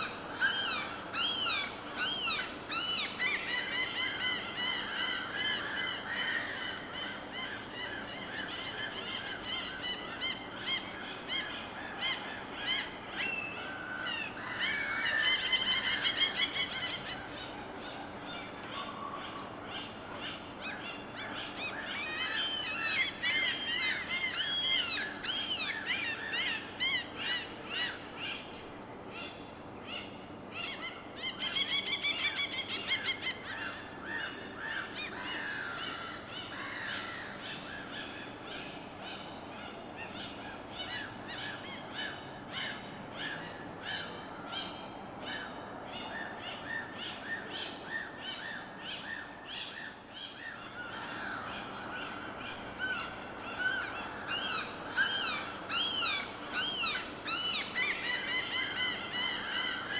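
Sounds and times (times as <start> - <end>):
birds calling: 0.0 - 59.9
low background hiss: 0.0 - 59.9.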